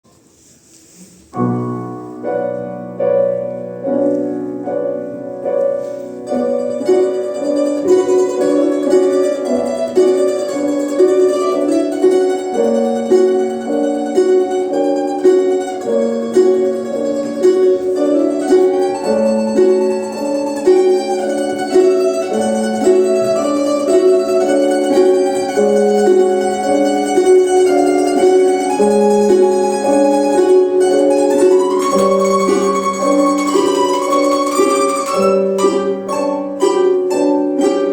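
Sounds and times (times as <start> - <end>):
plucked lutes ensemble: 0.9 - 37.9.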